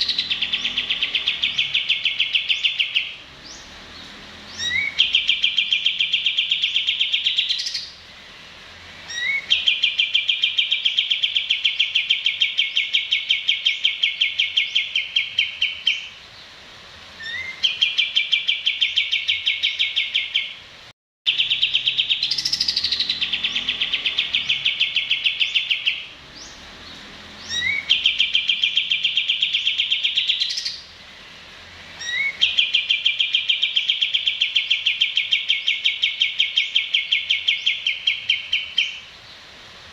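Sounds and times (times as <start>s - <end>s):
songbird chirping and trilling: 0.0s - 20.7s, 21.3s - 39.5s.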